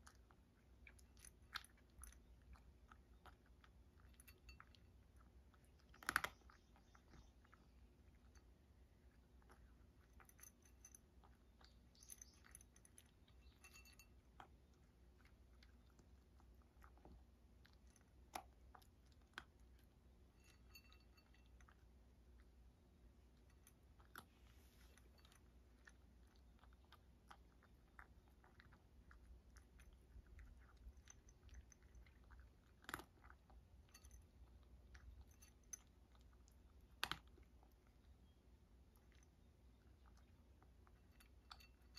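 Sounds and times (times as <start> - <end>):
cat crunching dry kibble: 0.0 - 20.7, 21.4 - 41.9.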